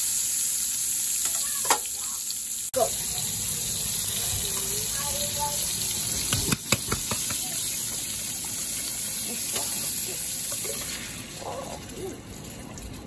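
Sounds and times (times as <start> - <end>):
sausages sizzling in frying pan: 0.0 - 11.9.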